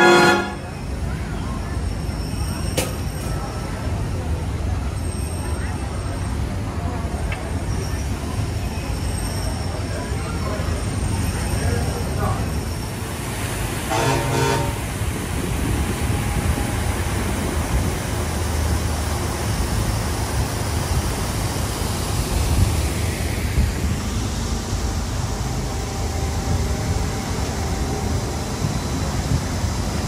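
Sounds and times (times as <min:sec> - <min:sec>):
monorail rumble and hiss: 0:00.0 - 0:30.0.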